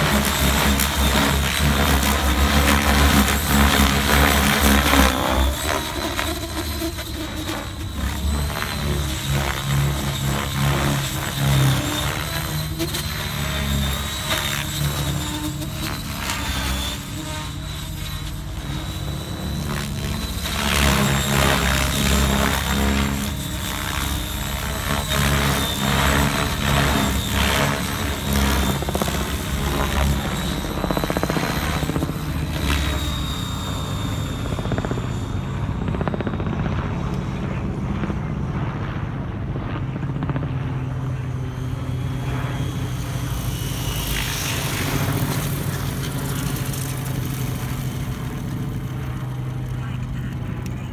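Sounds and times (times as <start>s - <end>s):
helicopter rotor beat: 0.0s - 50.9s
rc helicopter motor whine: 0.0s - 50.9s.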